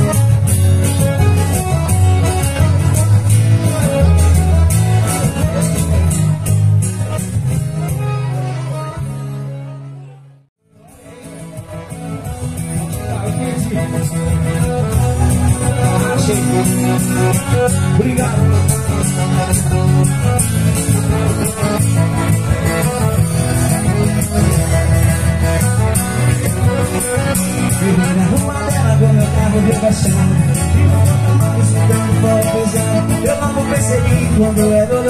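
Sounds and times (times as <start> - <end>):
acoustic guitars strumming: 0.0 - 10.2, 10.8 - 35.0.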